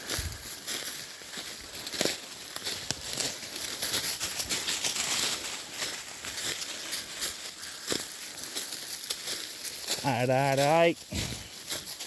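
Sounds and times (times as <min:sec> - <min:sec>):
footsteps crunching dry leaves: 0:00.0 - 0:12.0.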